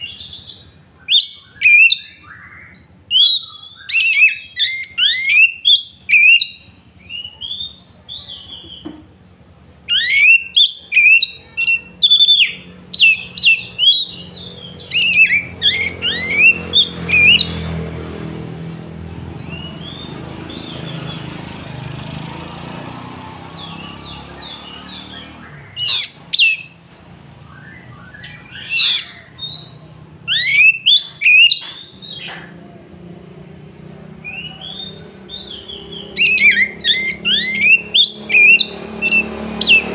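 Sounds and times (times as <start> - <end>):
bird singing whistled phrases: 0.0 - 8.9, 9.8 - 17.8, 18.7 - 21.2, 23.5 - 26.8, 27.4 - 32.3, 34.2 - 39.9.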